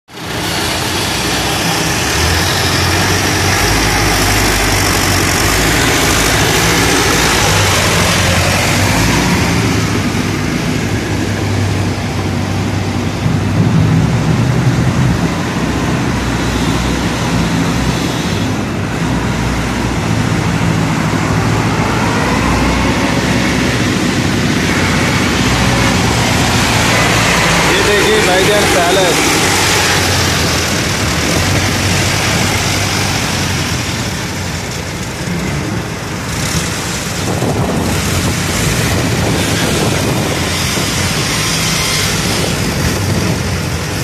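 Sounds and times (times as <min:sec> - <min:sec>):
tractor engine running: 0:00.1 - 0:44.0.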